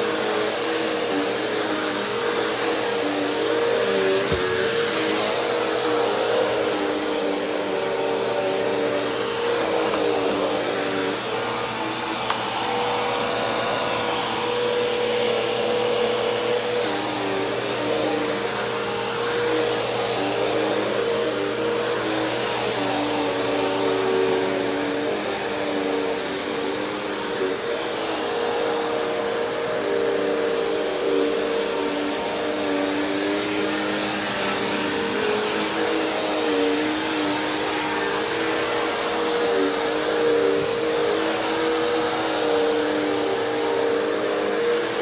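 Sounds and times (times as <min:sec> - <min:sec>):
vacuum cleaner running: 0:00.0 - 0:45.0.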